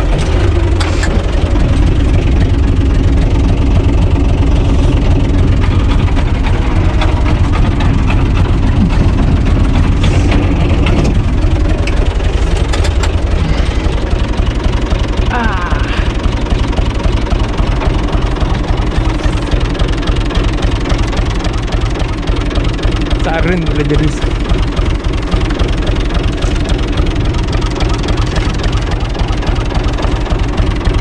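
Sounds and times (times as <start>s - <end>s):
tractor diesel engine rumbling: 0.0s - 31.0s.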